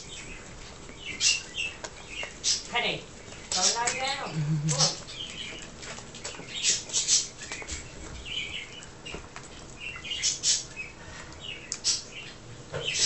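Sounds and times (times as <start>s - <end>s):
puppies suckling and shuffling: 0.0s - 12.7s.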